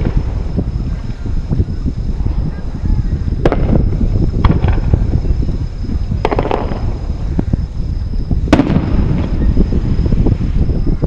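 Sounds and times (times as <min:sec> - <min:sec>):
firework bangs: 0:00.0 - 0:10.8
firework crackling: 0:00.0 - 0:11.0
wind on microphone: 0:00.0 - 0:11.0.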